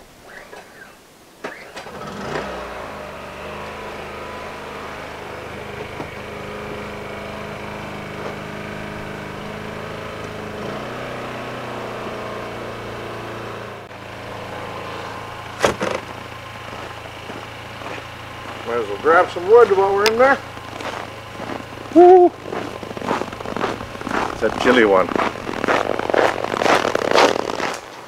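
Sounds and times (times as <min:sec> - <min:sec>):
small generator engine running: 0:01.8 - 0:27.8.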